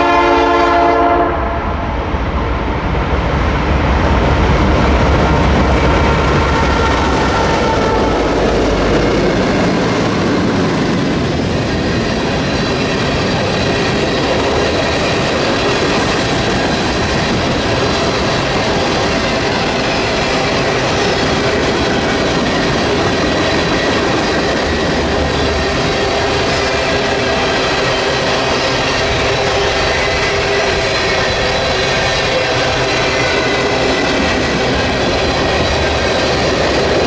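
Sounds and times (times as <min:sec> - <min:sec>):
heavy low train rumble: 0:00.0 - 0:37.0
train wheels clattering over rails: 0:00.0 - 0:37.0.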